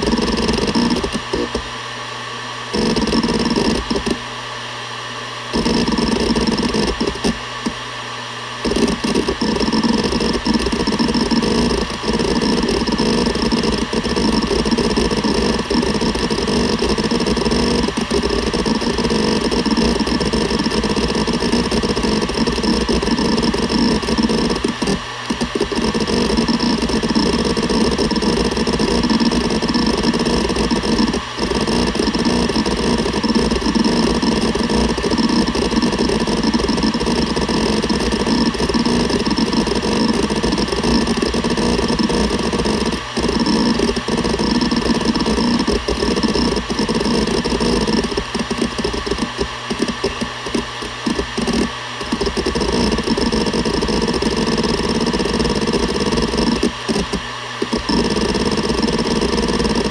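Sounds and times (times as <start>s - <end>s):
hard drive heads seeking: 0.0s - 1.7s, 2.7s - 4.2s, 5.5s - 7.8s, 8.6s - 59.9s
hard drive whine: 0.0s - 59.9s.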